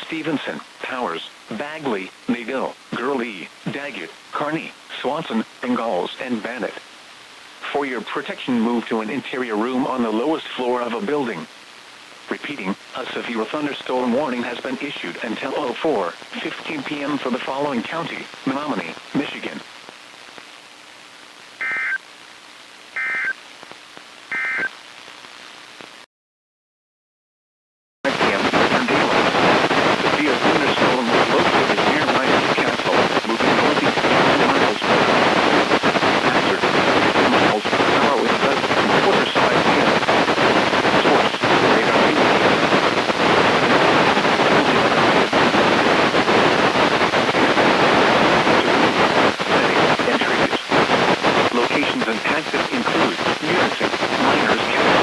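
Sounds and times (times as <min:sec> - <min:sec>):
faint radio hiss: 0:00.0 - 0:26.1, 0:28.1 - 0:55.0.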